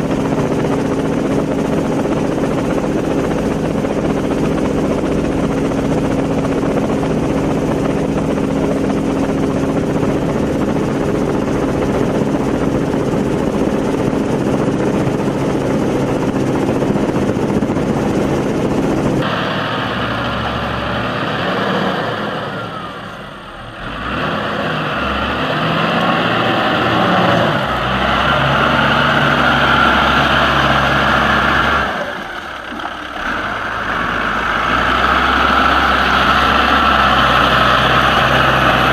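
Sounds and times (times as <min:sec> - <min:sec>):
engine with high whine: 0:00.0 - 0:38.9
heavy machinery engines droning: 0:00.0 - 0:38.9.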